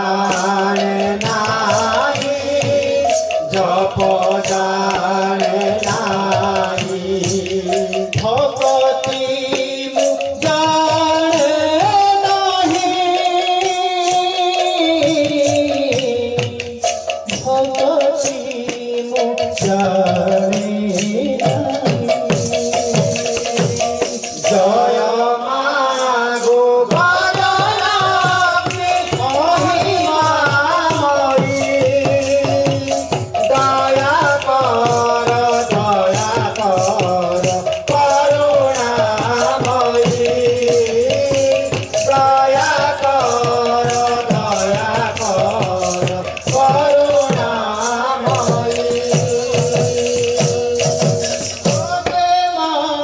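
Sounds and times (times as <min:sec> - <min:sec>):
rattling percussion: 0:00.0 - 0:53.0.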